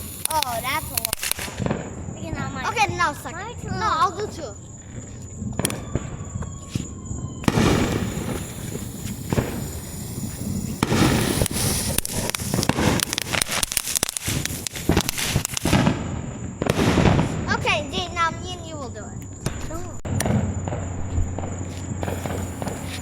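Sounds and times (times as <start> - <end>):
firework hissing and crackling: 0.0 - 23.0.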